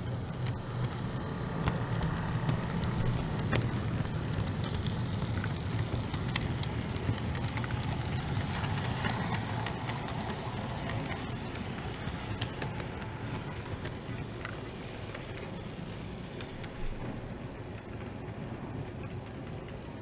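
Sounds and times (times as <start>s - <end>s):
model train motor and wheel rumble: 0.0s - 20.0s
small track clicks: 0.0s - 20.0s.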